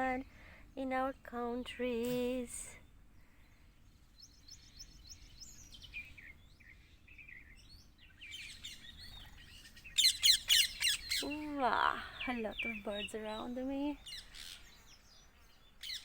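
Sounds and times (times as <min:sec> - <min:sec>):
wild birds chirping: 0:00.0 - 0:16.0.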